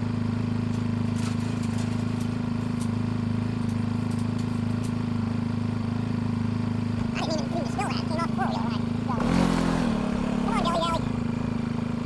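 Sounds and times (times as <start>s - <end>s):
utility vehicle engine humming: 0.0s - 12.0s.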